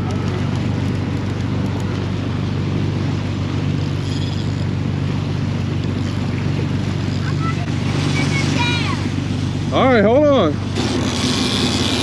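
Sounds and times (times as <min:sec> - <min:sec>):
boat engines droning: 0:00.0 - 0:12.0
wind and water hiss: 0:00.4 - 0:12.0.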